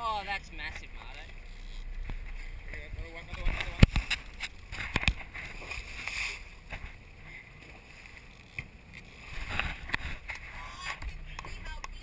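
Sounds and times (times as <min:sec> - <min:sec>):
water rushing along a hull: 0:00.0 - 0:12.0.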